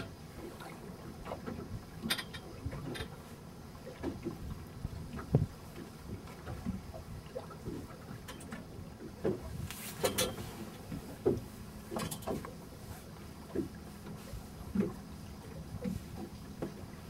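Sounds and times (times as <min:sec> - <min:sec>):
low rumble of water: 0:00.0 - 0:17.0
waves slapping against boat hull: 0:00.0 - 0:17.0
wind: 0:00.0 - 0:17.0.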